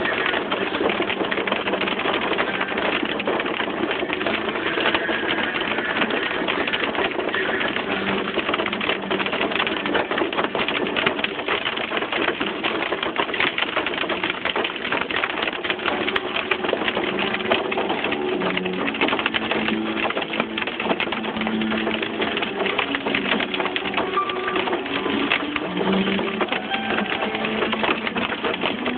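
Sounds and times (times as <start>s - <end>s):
hail on car roof: 0.0s - 28.9s.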